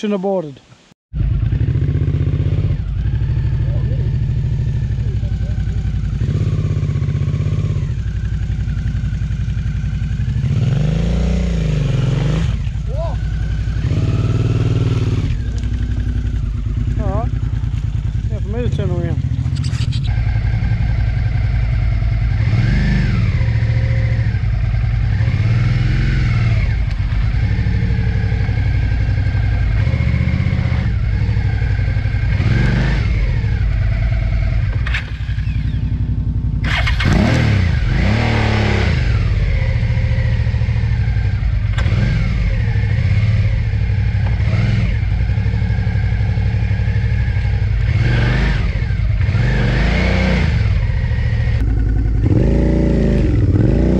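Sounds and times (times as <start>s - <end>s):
motorcycle engine revving: 1.2s - 53.9s.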